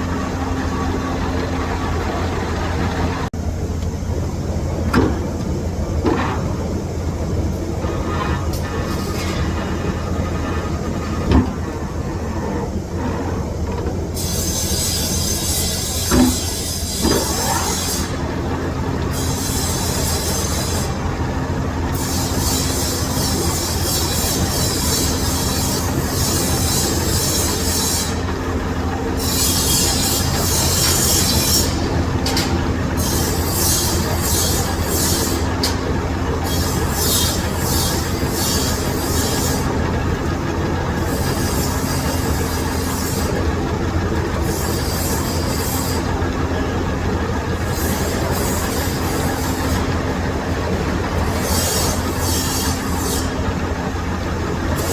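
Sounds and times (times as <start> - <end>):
lathe machine hum: 0.0 - 54.9.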